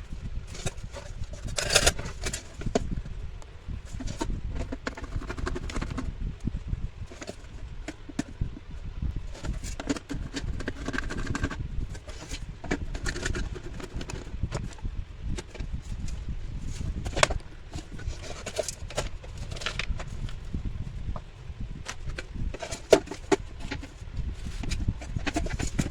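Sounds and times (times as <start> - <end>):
low rumble: 0.0 - 25.9.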